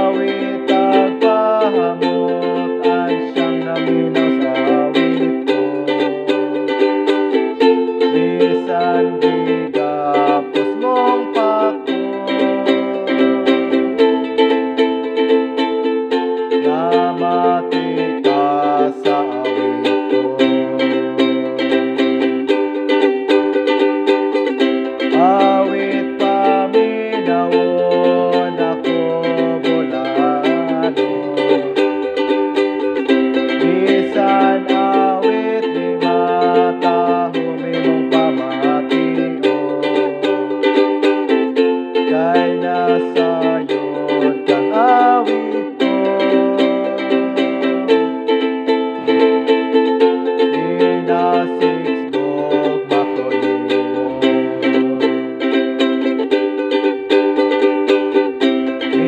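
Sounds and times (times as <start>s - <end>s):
ukulele playing hymn tune: 0.0s - 59.0s.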